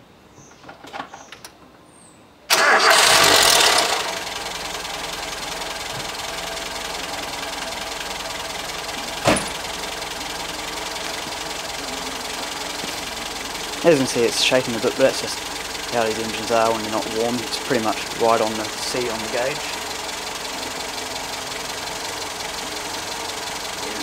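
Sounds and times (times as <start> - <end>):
engine cranking and starting: 2.5 - 24.0
engine idling: 2.5 - 24.0.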